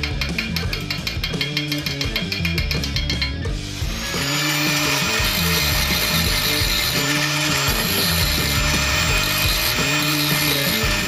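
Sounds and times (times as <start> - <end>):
angle grinder grinding metal: 0.0 - 11.0
background music with bass line: 0.0 - 11.0.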